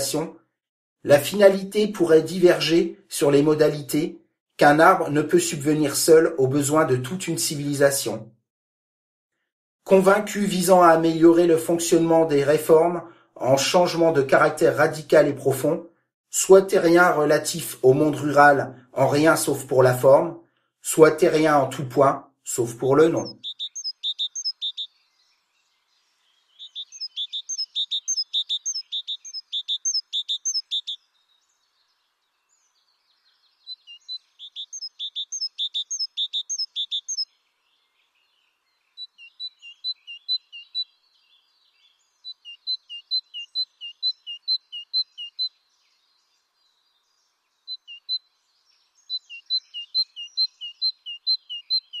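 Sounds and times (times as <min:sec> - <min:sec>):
songbird chirping: 0:09.4 - 0:52.0.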